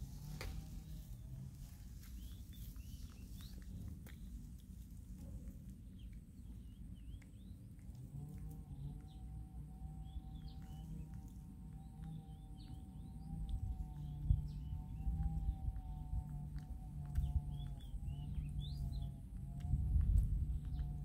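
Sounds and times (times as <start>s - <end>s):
light rustles and ticks: 0.0s - 21.0s
low outdoor rumble: 0.0s - 21.0s
small birds chirping: 0.0s - 21.0s.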